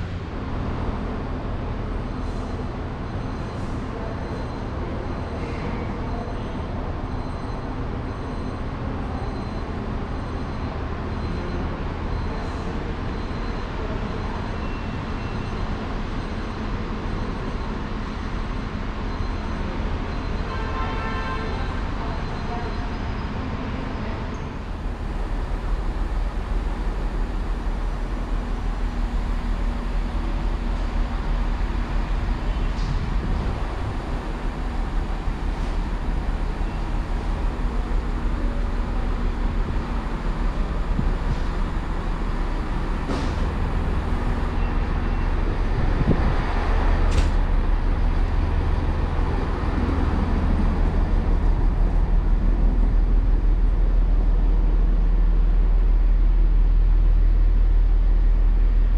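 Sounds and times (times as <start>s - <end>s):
diesel locomotive idling: 0.0s - 58.9s.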